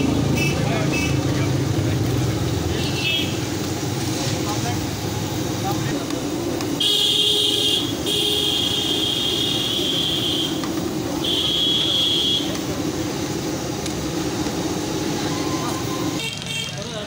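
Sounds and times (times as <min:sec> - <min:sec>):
fish deep-frying sizzle: 0:00.0 - 0:16.3.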